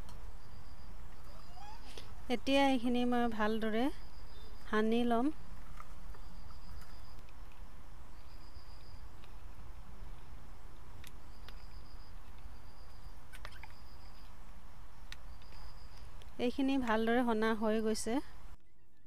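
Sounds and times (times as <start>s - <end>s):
cricket chirping: 0.0s - 2.2s, 3.1s - 16.5s
steady low hum: 0.0s - 19.0s.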